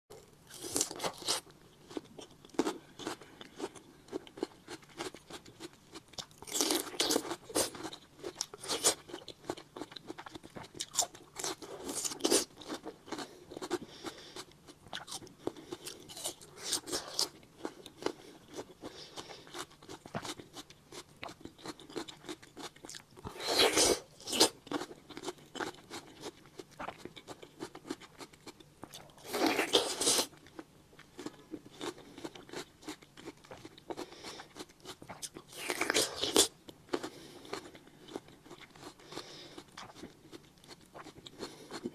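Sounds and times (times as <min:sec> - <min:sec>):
crunchy chewing of fruit: 0:00.1 - 0:41.9.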